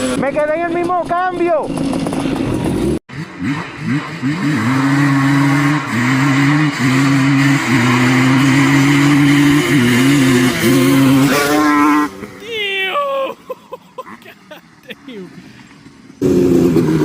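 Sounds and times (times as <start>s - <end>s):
two-stroke engine screaming: 0.0s - 17.0s.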